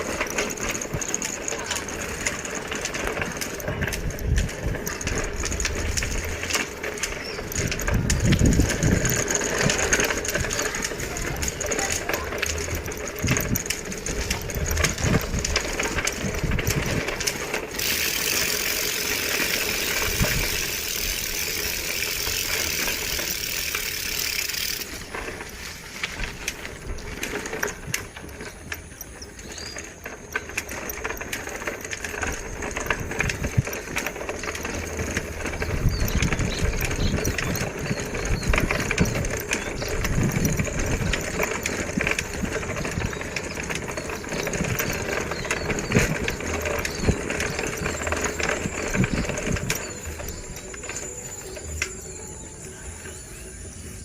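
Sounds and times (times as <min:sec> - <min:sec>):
bicycle rattling on rough road: 0:00.0 - 0:54.0.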